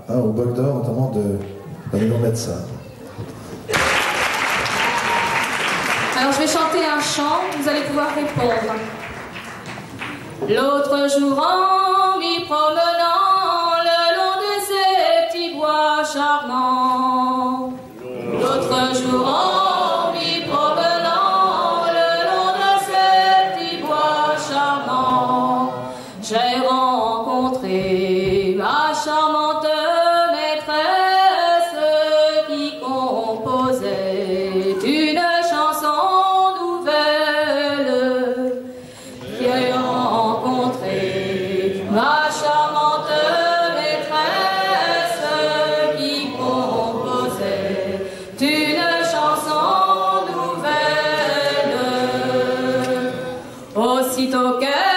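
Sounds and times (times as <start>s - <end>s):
audience singing together: 5.3s - 54.9s.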